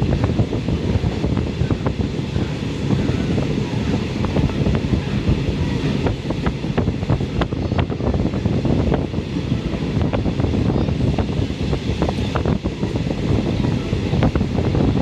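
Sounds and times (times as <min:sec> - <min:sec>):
rushing noise: 0:00.0 - 0:15.0
train wheels rumbling on track: 0:00.0 - 0:15.0.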